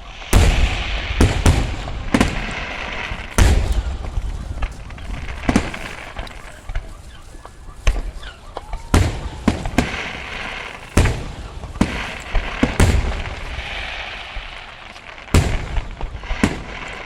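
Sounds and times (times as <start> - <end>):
firework bangs and booms: 0.0 - 17.0
firework crackle: 0.0 - 17.0.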